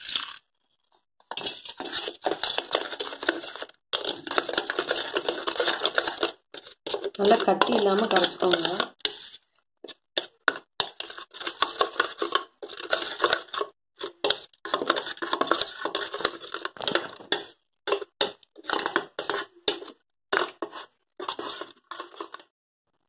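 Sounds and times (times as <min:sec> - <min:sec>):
spoon beating batter in metal bowl: 0:01.3 - 0:22.5.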